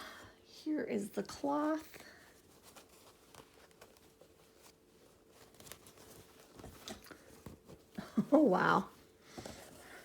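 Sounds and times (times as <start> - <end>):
packaging and cloth rustling: 1.7 - 10.0.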